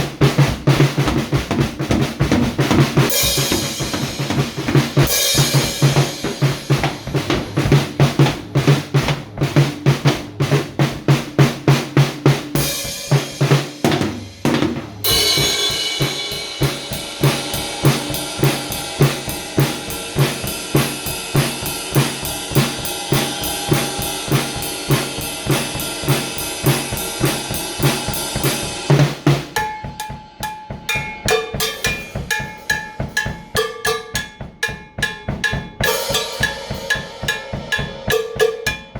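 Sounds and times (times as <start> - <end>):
drum kit steady beat: 0.0 - 38.9.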